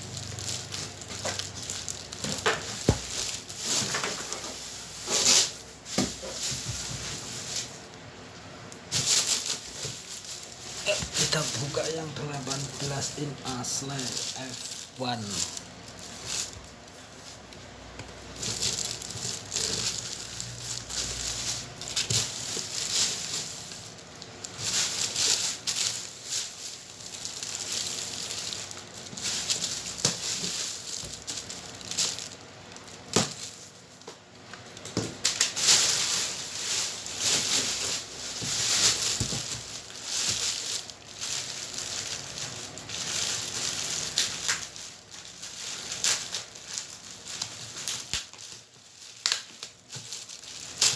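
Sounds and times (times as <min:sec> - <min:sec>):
packaging crinkling and tearing: 0:00.0 - 0:07.8, 0:08.9 - 0:17.4, 0:18.1 - 0:50.9.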